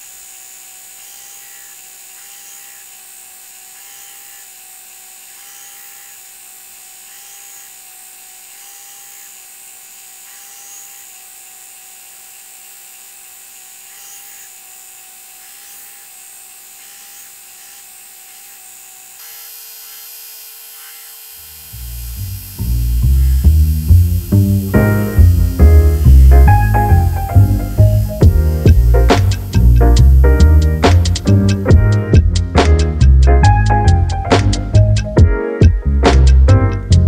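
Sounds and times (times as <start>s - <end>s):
belt grinder whining: 0.0s - 35.2s
blade grinding on belt: 0.0s - 35.2s.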